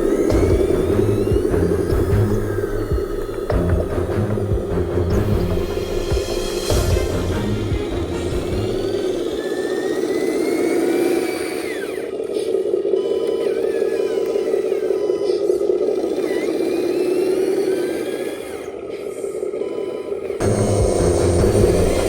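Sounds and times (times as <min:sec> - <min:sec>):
electric motor whirring drone: 0:00.0 - 0:22.0
high motor whine: 0:00.0 - 0:22.0.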